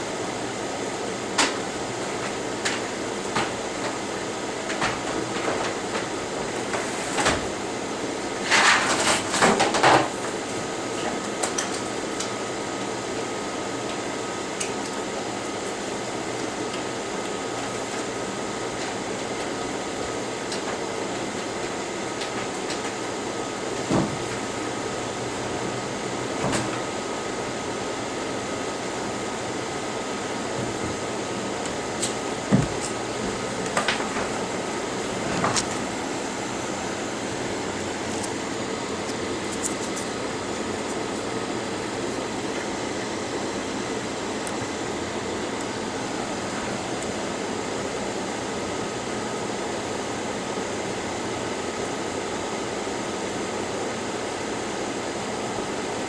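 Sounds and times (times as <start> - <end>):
steady fan noise: 0.0 - 56.0.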